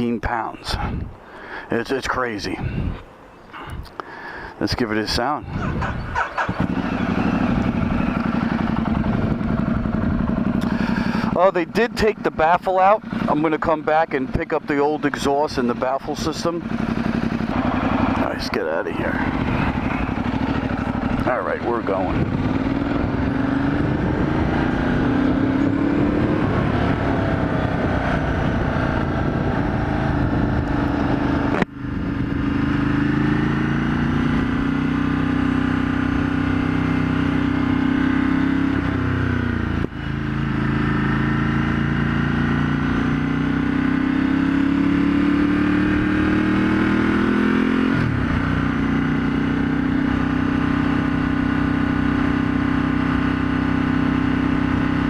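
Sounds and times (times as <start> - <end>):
motorcycle accelerating away: 5.5 - 12.3, 16.1 - 55.0.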